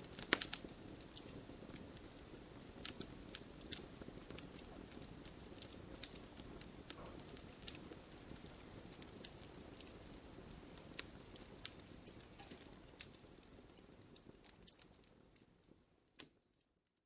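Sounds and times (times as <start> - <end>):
low steady hiss: 0.0 - 17.0
wood fire crackling: 0.0 - 17.0.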